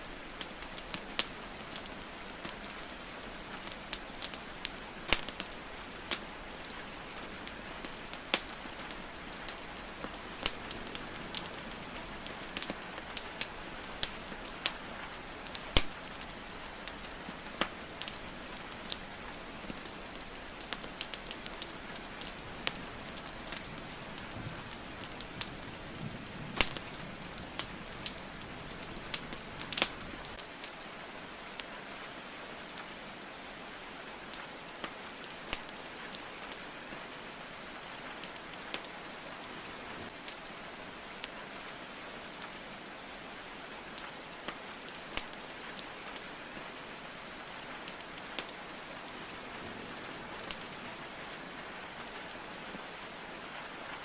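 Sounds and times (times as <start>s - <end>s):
wood fire crackling and popping: 0.0s - 33.3s, 34.2s - 43.0s, 43.9s - 52.4s
rain hissing: 0.0s - 54.0s.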